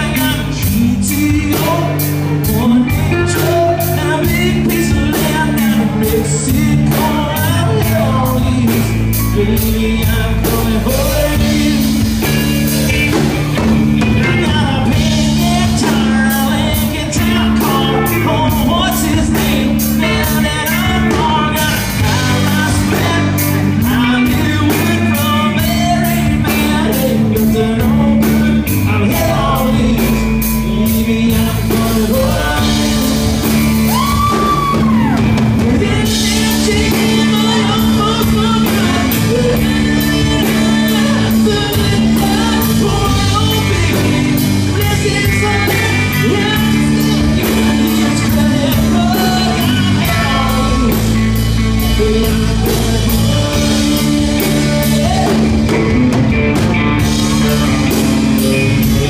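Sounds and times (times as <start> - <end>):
lead singer singing: 0.0 - 59.0
rock band playing: 0.0 - 59.0.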